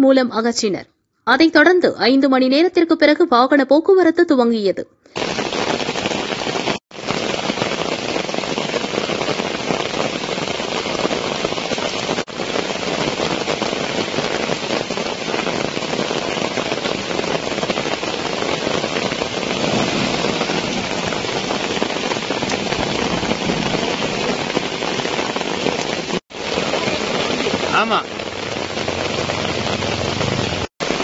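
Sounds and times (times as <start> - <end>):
heavy rain falling: 5.2 - 31.0.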